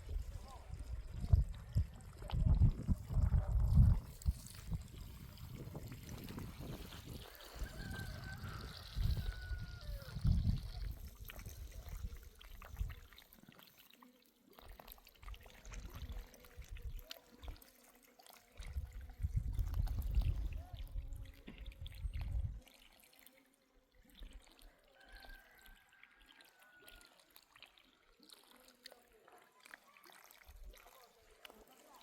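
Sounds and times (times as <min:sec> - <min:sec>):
water trickling and pouring: 0:00.0 - 0:32.0.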